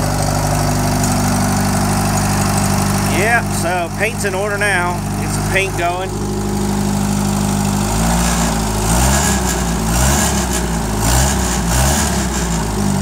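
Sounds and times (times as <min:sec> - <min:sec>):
tractor engine revving: 0:00.0 - 0:13.0.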